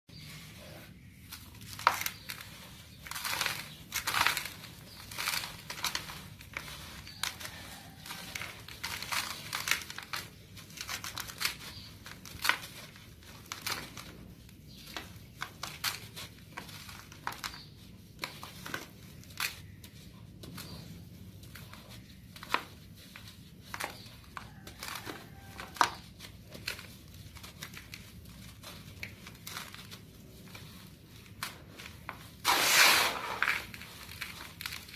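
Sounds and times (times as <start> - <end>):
crinkling and crackling: 0.1 - 34.9.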